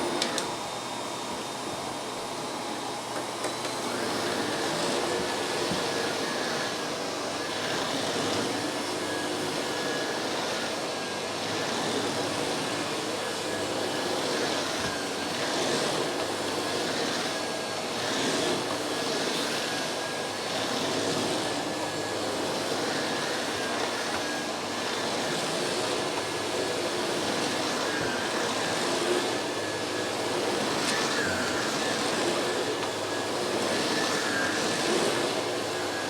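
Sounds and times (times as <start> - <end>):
vacuum cleaner on carpet: 0.0 - 36.0.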